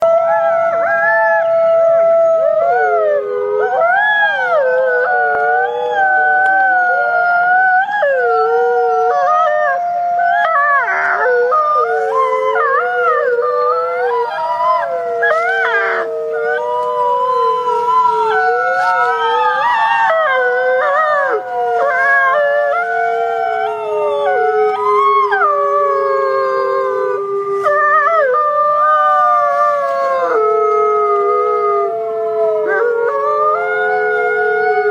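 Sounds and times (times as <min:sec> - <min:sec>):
wolves howling: 0:00.0 - 0:34.9.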